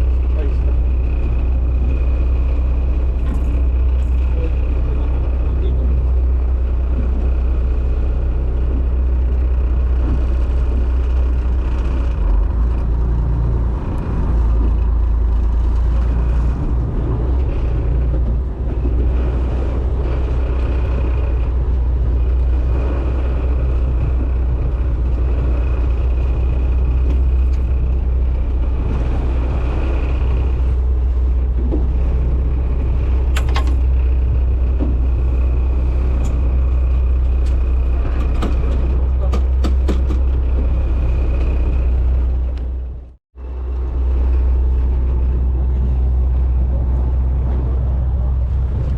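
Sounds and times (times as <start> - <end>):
boat engine rumble: 0.0 - 48.9.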